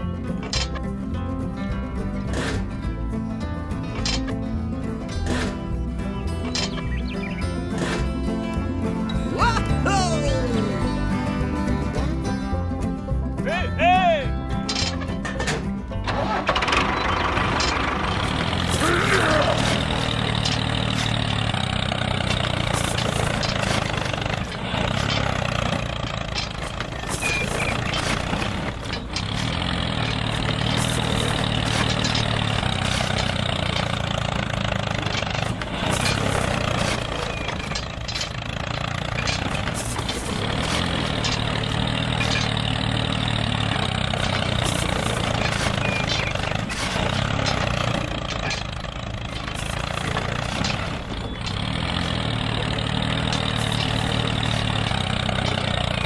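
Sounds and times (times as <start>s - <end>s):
tractor engine rumbling: 0.0s - 56.0s.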